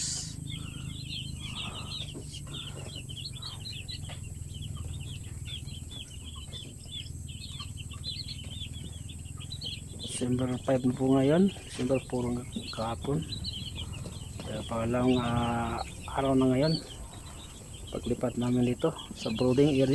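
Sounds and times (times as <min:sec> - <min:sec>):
chicks peeping: 0:00.0 - 0:19.9
steady low hum: 0:00.0 - 0:19.9.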